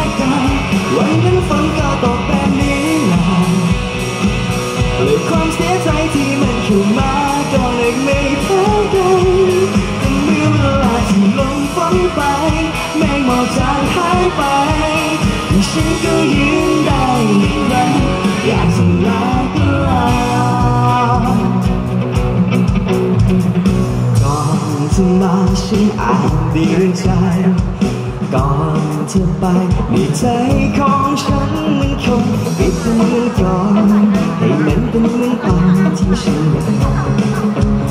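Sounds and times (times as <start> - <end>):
person singing: 0.0 - 22.1, 24.1 - 37.9
steady drum beat: 0.0 - 37.9.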